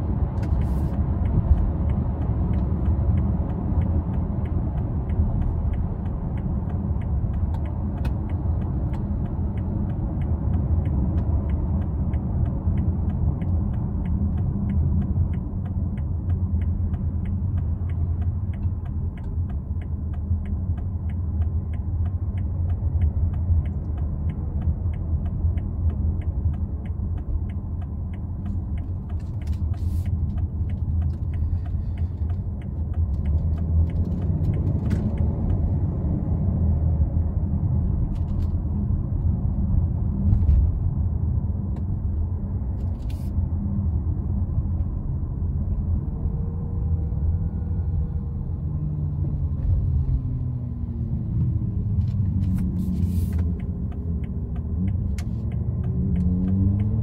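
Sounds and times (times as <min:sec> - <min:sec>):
diesel engine and tyre rumble: 0:00.0 - 0:57.0.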